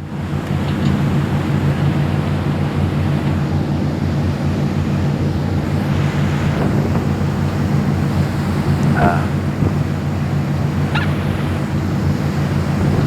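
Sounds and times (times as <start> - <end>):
boat motor running: 0.0 - 13.0
wind and water rushing: 0.0 - 13.0.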